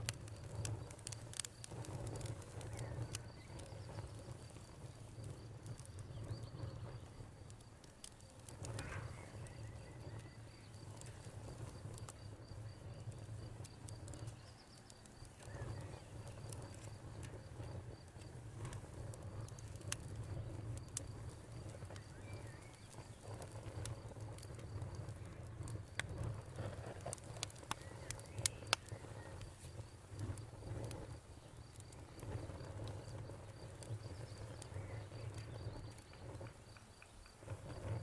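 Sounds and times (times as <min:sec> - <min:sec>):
campfire crackling and popping: 0:00.0 - 0:38.0
cricket chirping: 0:00.0 - 0:38.0.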